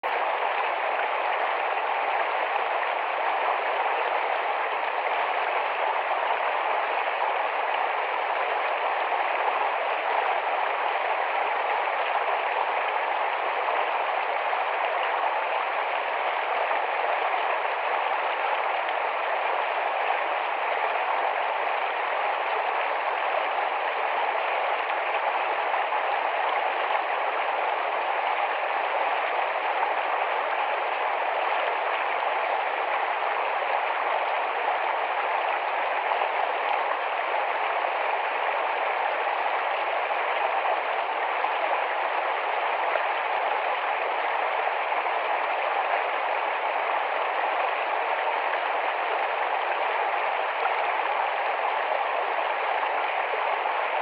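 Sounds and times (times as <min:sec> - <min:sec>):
stream rushing over stones: 0:00.1 - 0:54.0.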